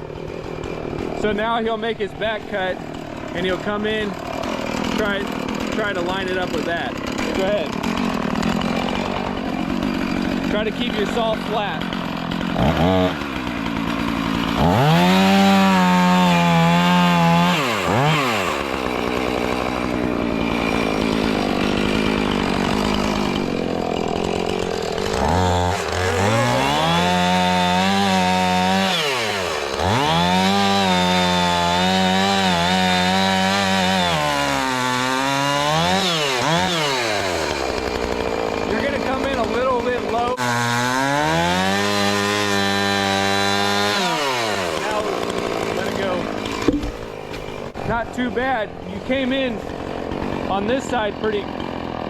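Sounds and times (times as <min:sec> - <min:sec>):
chainsaw cutting tree: 0:00.0 - 0:52.0.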